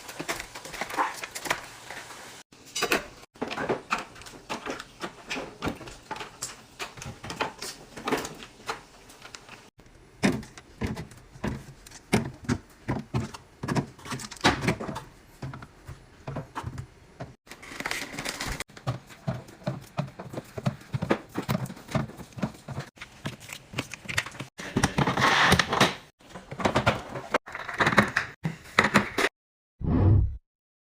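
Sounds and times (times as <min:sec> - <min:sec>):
plastic containers clicking and knocking: 0:02.9 - 0:29.2.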